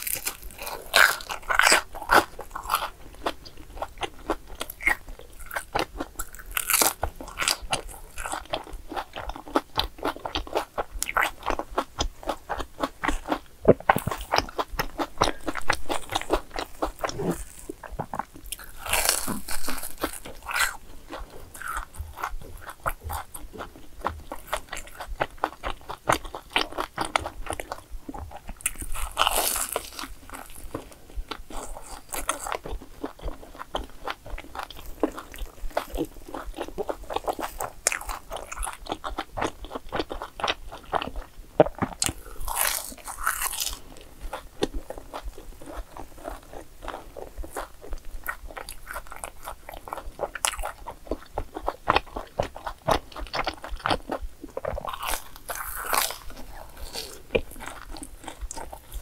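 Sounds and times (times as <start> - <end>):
chewing: 0.0 - 59.0
crunchy bites: 0.0 - 59.0.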